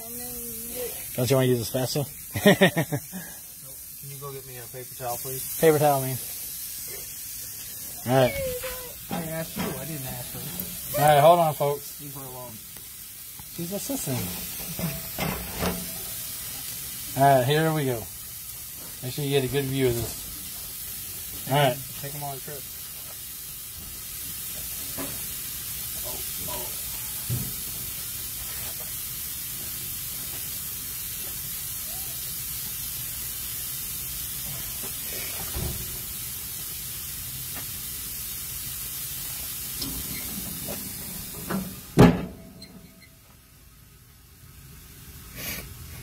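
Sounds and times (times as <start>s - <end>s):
patties sizzling on grill: 0.0s - 46.0s.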